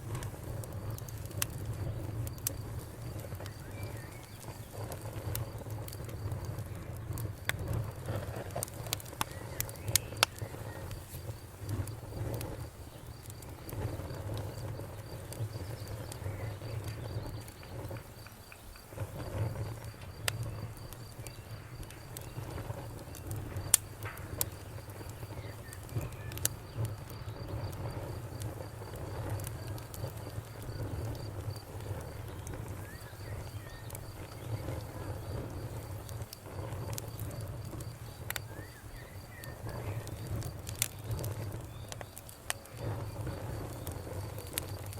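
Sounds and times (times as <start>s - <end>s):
campfire crackling: 0.0s - 44.9s
low rumble of flames: 0.0s - 44.9s.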